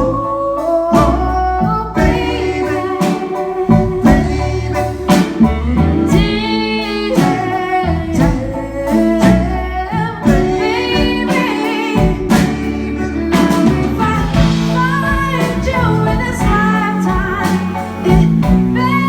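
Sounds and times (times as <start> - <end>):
live country-pop band: 0.0 - 19.0
person singing: 0.0 - 19.0.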